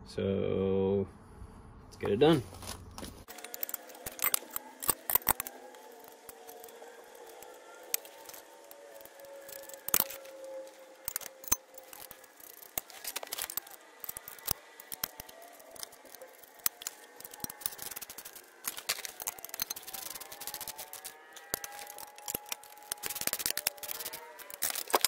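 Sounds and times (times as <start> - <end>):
metal clinks and knocks: 3.2 - 25.0
socket ratchet clicking: 3.3 - 25.0.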